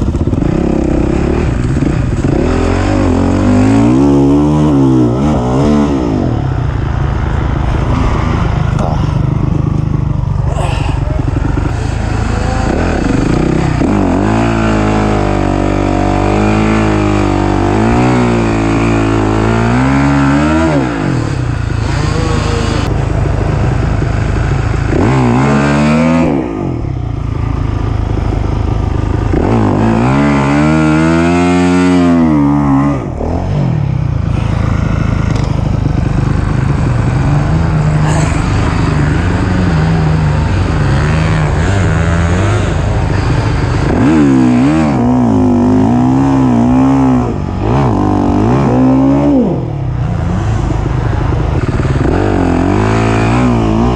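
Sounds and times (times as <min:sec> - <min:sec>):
race engine revving: 0:00.0 - 0:53.9.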